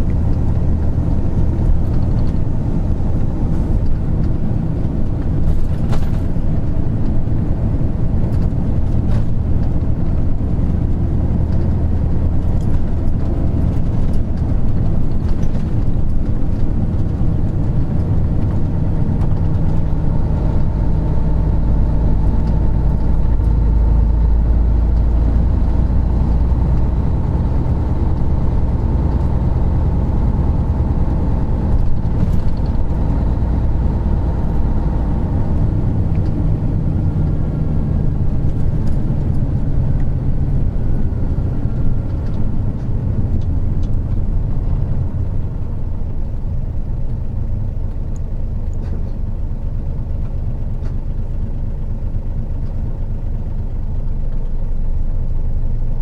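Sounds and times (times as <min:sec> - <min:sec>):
diesel engine drone: 0:00.0 - 0:56.0
road noise: 0:00.0 - 0:56.0.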